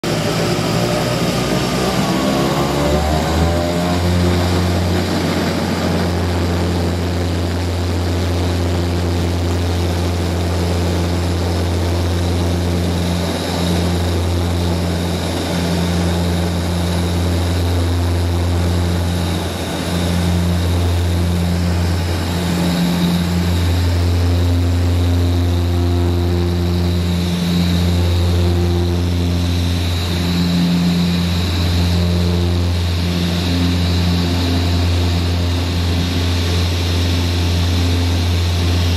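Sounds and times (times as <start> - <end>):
propeller drone in aircraft cabin: 0.0 - 38.9.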